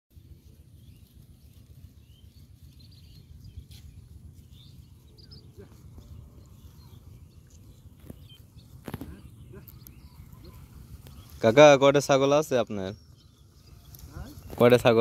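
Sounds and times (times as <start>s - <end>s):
wind rumbling on microphone: 0.1s - 11.7s, 13.0s - 15.0s
bird chirps: 0.7s - 15.0s.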